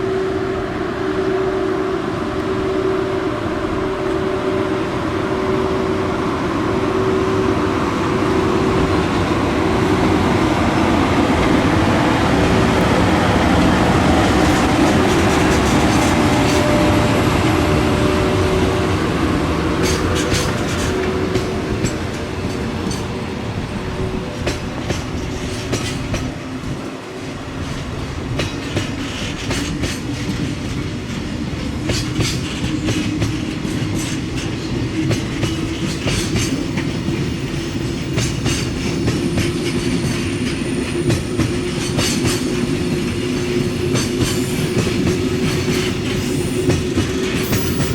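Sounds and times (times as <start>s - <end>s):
train rumble and hum: 0.0s - 47.9s
train wheels clacking on rail joints: 8.6s - 47.9s.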